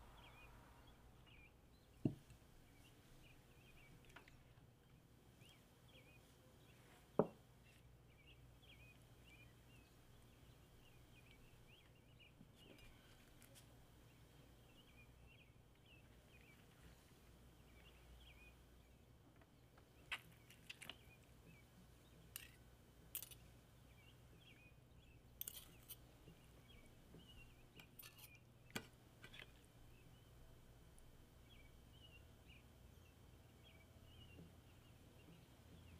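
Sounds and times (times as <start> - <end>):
faint birds chirping: 0.0 - 35.9
low steady hum: 0.0 - 35.9.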